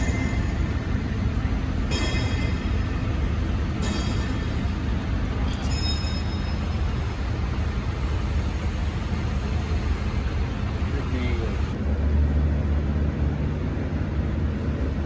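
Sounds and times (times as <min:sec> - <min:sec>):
low machinery drone: 0:00.0 - 0:15.0.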